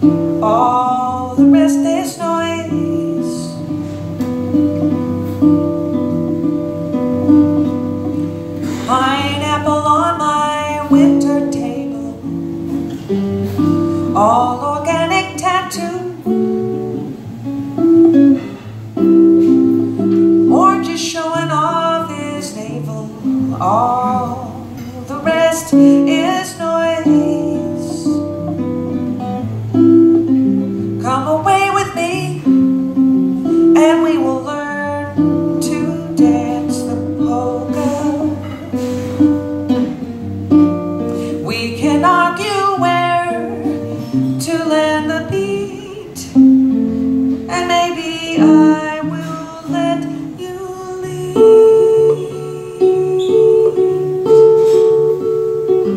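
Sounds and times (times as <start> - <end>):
woman singing: 0.0 - 17.2, 19.0 - 29.0, 29.7 - 55.9
acoustic guitar: 0.0 - 55.9.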